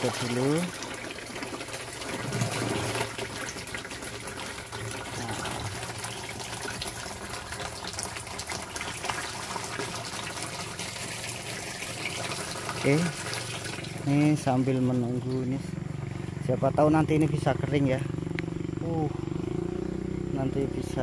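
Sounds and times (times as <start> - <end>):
water gushing from hose into drum: 0.0 - 18.0.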